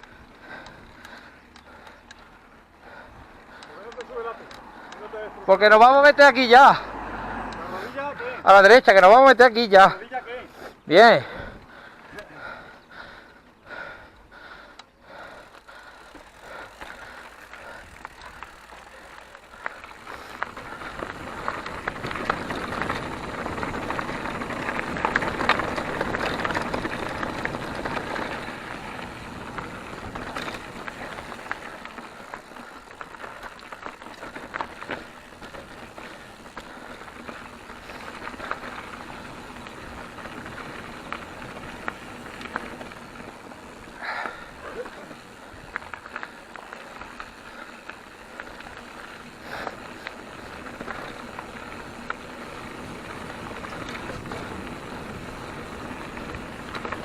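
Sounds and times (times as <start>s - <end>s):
bike tyres crunching on dirt: 0.0s - 57.0s
bike rattling and knocking: 10.9s - 57.0s.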